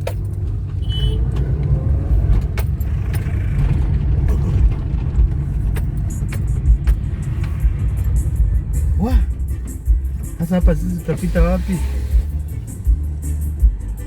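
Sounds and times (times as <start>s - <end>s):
sharp clicks and rattles: 0.0s - 11.5s
car engine and road rumble: 0.0s - 14.0s.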